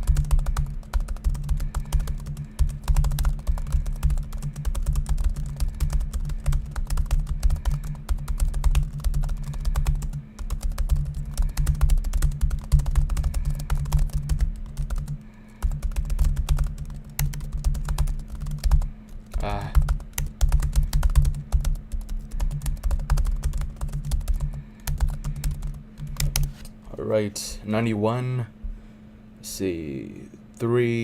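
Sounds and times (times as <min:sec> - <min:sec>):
fast typing on laptop keyboard: 0:00.0 - 0:26.5
steady low hum: 0:00.0 - 0:31.0.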